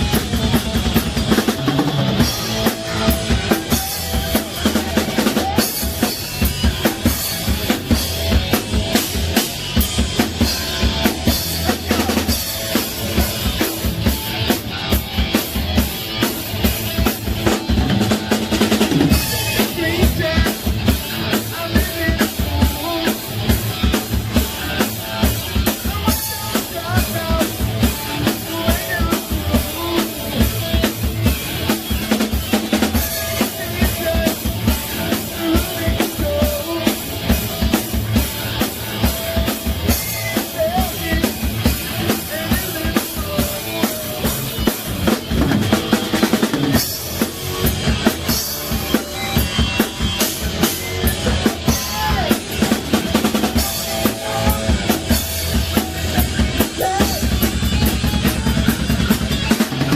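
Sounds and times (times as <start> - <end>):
drum kit fast beat: 0.0 - 59.9
heavy metal band playing: 0.0 - 59.9.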